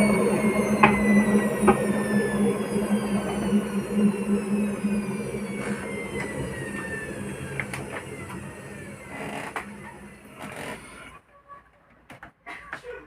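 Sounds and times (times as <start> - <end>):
washing machine winding down: 0.0 - 11.2.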